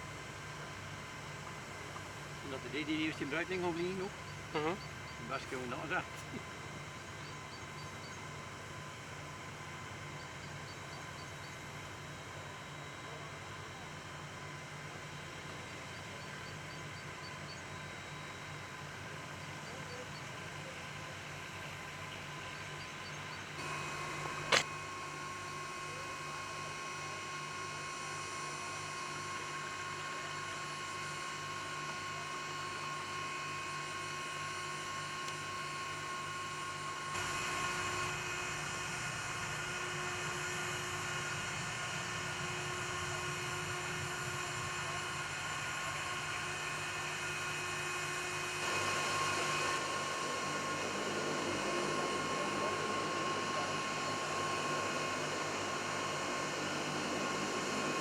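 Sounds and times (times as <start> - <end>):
jet turbine whine: 0.0 - 58.0.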